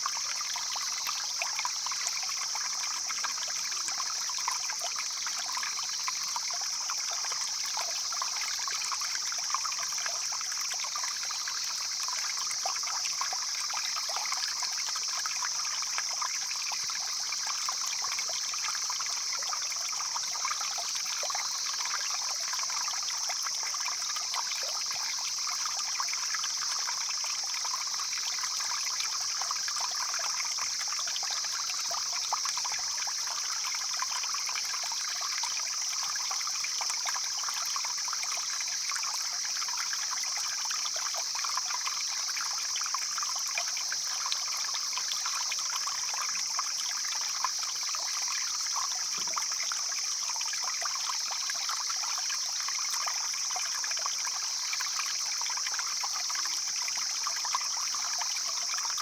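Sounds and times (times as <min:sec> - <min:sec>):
stream flowing and splashing: 0:00.0 - 0:59.0.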